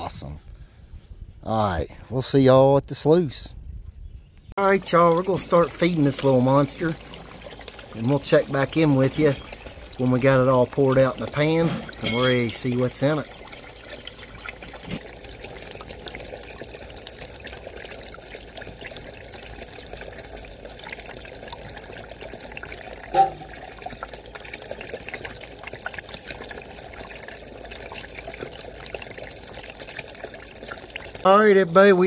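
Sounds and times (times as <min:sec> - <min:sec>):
water trickling through sluice: 0:04.6 - 0:32.0.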